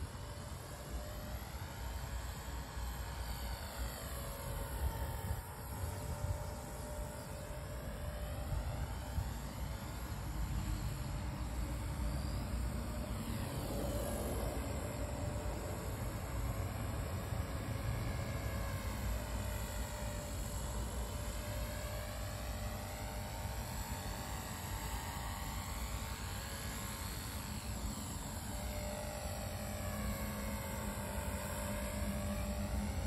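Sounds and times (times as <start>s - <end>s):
toy helicopter rotor whine: 0.0s - 33.0s.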